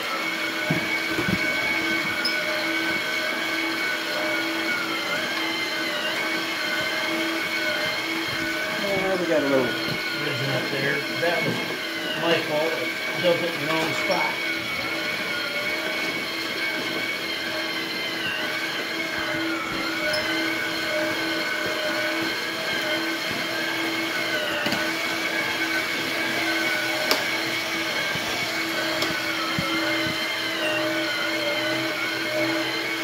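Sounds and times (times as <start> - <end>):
small electric motors whining: 0.0 - 33.0.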